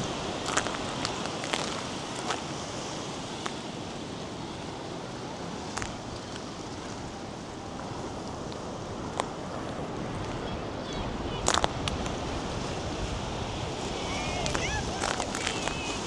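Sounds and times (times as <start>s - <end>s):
surf washing onto sandy beach: 0.0s - 16.0s
wind across microphone: 0.0s - 16.0s.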